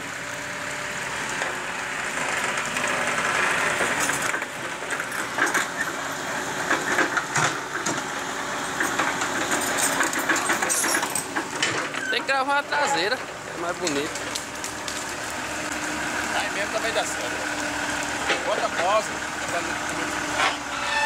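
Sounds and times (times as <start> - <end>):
dump truck engine running: 0.0 - 21.0.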